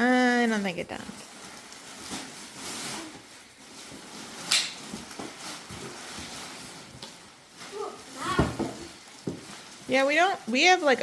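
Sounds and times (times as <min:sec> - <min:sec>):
faint rustling: 0:00.0 - 0:11.0
sharp crackle: 0:01.0 - 0:10.6.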